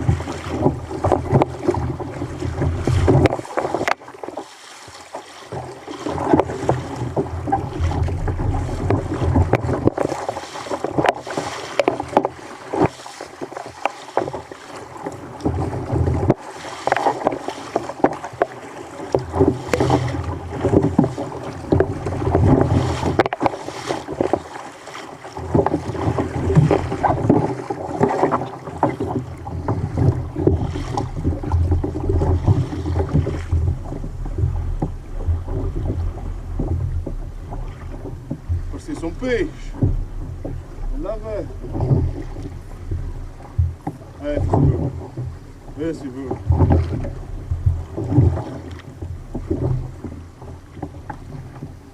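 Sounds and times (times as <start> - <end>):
wind rumbling on microphone: 0.0 - 4.0, 5.6 - 13.0, 19.1 - 24.5, 25.4 - 51.9
water slapping against kayak: 0.0 - 51.9.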